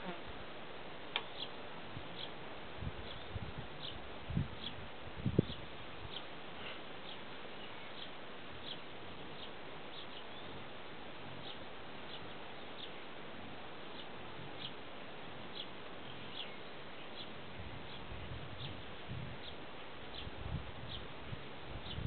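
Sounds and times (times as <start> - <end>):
steady background hiss: 0.0 - 22.0
small birds chirping: 1.1 - 22.0.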